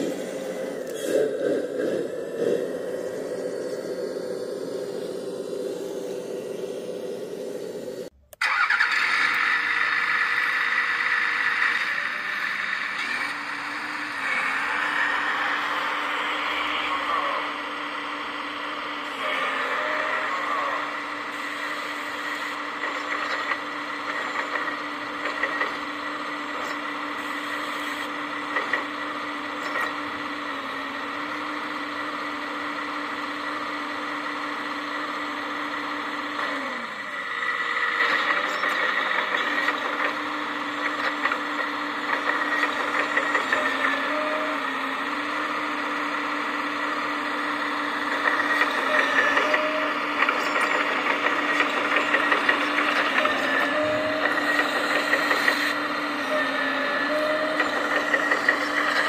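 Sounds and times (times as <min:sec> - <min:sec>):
hydraulic pump whining: 0:00.0 - 0:59.0.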